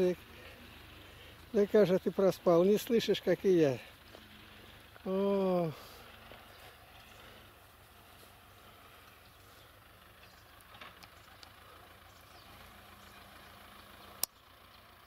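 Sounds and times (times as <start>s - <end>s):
distant tractor engine running: 0.0s - 15.0s.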